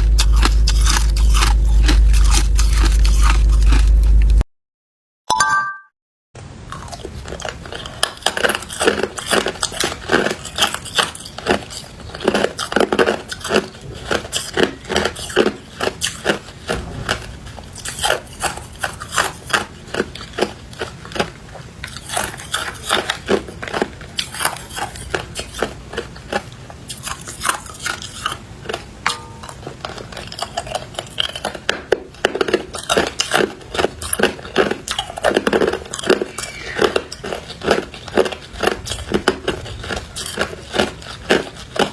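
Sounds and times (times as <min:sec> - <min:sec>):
ice being chewed: 0:00.0 - 0:04.4, 0:06.7 - 0:41.9.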